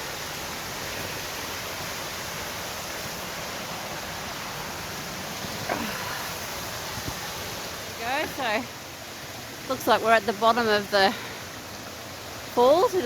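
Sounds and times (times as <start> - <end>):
water rushing at waterfall: 0.0 - 13.0.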